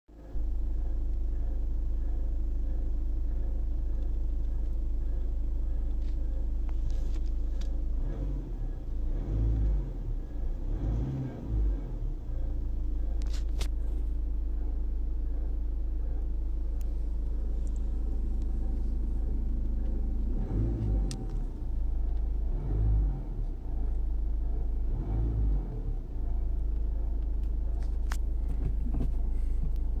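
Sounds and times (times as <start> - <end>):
diesel engine rumbling: 0.1 - 30.0
odd engine noise: 0.1 - 30.0.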